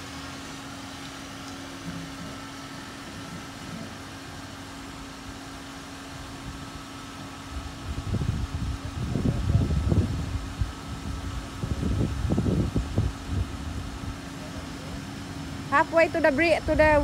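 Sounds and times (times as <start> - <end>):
car engine humming: 0.0 - 8.0, 10.2 - 17.0.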